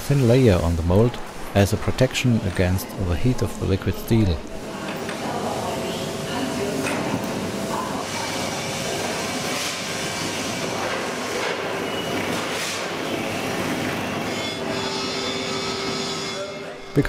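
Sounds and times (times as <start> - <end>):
foundry machinery din: 0.0 - 17.0.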